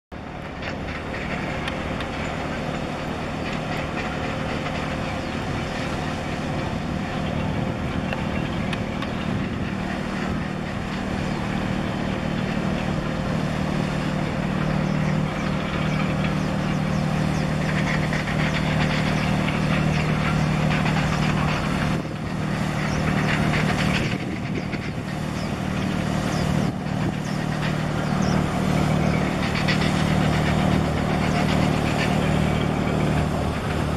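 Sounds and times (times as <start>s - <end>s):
ship diesel engine drone: 0.1s - 33.9s.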